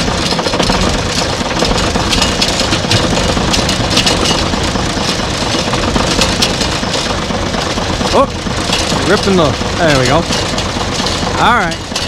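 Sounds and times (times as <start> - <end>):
loader engine idling: 0.0 - 12.0
light clicks and rattles: 0.2 - 12.0.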